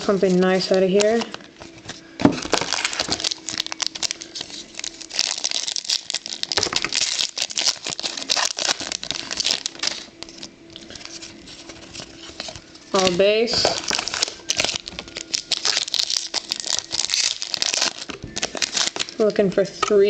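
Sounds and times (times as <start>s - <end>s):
wrappers crinkling and tearing: 0.0s - 19.8s.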